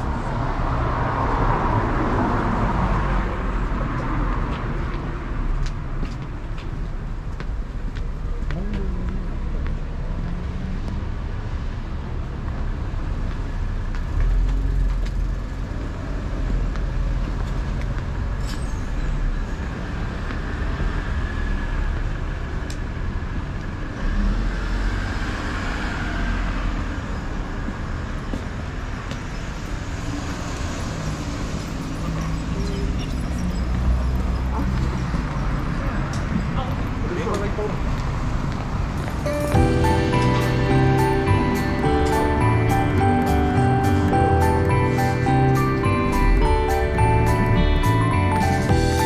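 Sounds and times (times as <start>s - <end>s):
rumble of passing cars: 0.0s - 49.0s.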